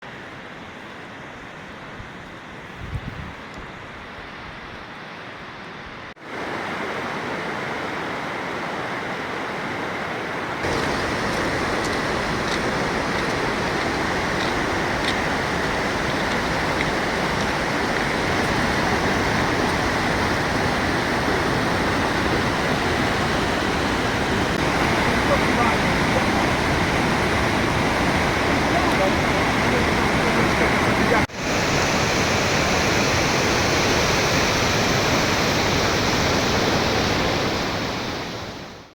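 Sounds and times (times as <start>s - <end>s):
waterfall rushing: 6.2s - 38.9s.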